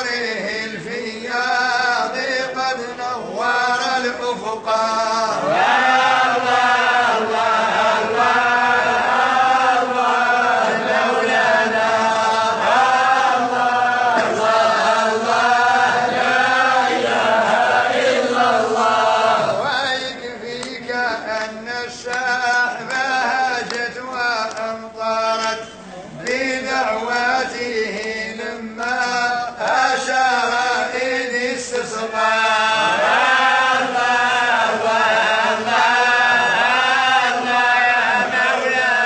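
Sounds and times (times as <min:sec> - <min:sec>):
man chanting: 0:00.0 - 0:12.6, 0:16.7 - 0:39.0.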